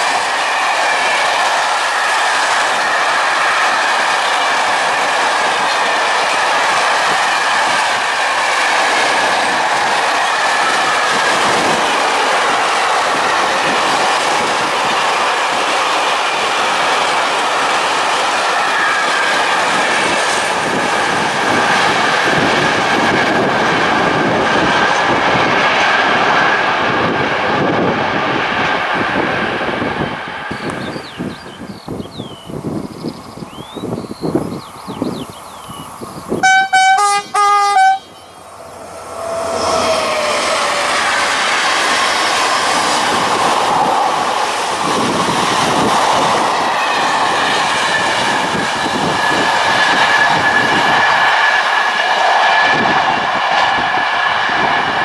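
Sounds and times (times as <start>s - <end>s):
train wheels clattering on rails: 0.0s - 35.0s, 38.8s - 55.0s.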